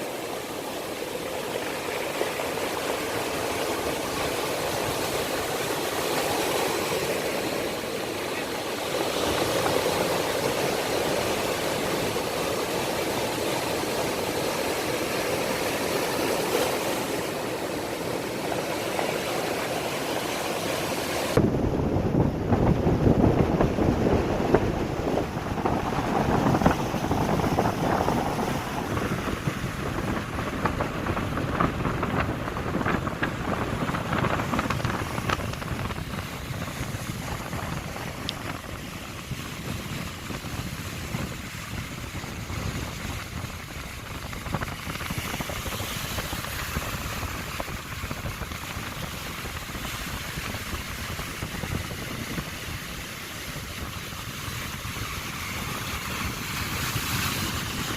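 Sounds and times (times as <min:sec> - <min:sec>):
surf washing: 0:00.0 - 0:57.9
wind buffeting microphone: 0:00.0 - 0:57.9.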